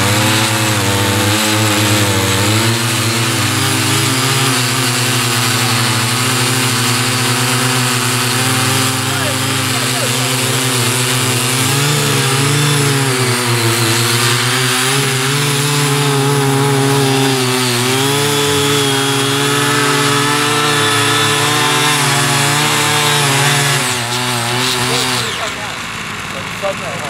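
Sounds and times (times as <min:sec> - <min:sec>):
small petrol engines running: 0:00.0 - 0:27.0
tiller tines digging into soil: 0:00.0 - 0:27.0.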